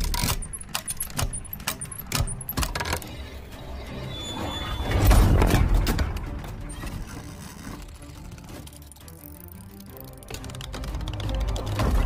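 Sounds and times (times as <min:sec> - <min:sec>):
sharp metallic clicks and clanks: 0:00.0 - 0:03.3, 0:05.0 - 0:12.0.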